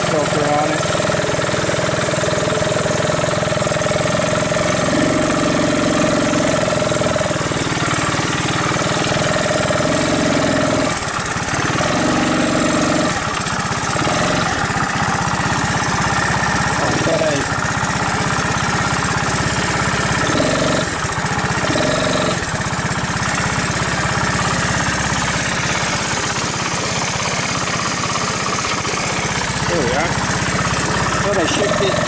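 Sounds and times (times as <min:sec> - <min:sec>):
four-stroke engine running: 0:00.0 - 0:32.0.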